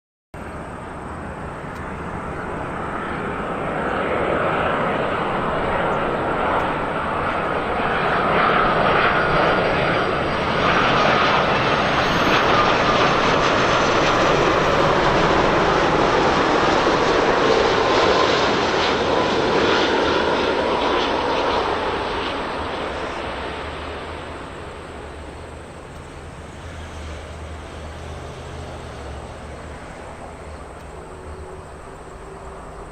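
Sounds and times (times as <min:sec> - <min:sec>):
airliner jet engines passing: 0:00.4 - 0:32.9.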